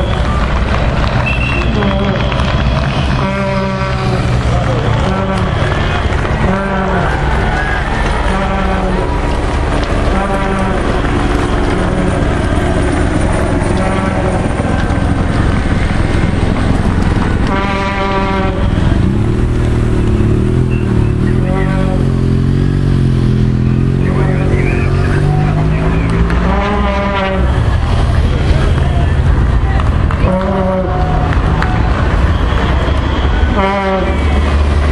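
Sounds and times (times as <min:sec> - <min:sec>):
car and motorcycle engines passing: 0:00.0 - 0:34.9
loud rush of noise: 0:00.0 - 0:34.9.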